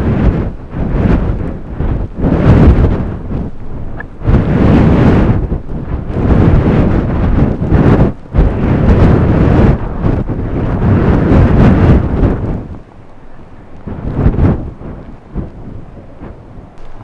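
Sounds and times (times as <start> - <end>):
strong wind gusting against microphone: 0.0 - 17.0.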